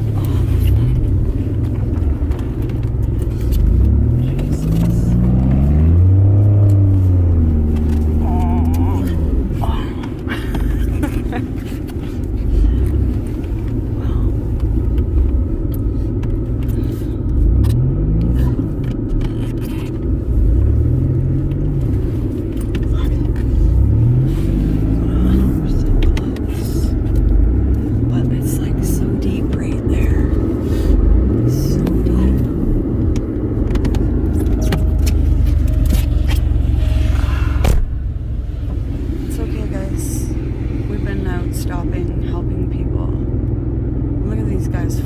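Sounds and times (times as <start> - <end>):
car engine rumbling: 0.0 - 45.0.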